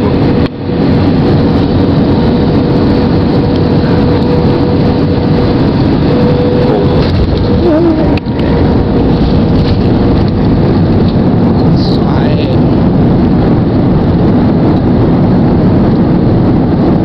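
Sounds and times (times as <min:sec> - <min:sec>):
airliner engines rumbling: 0:00.0 - 0:17.0
rushing air: 0:00.0 - 0:17.0.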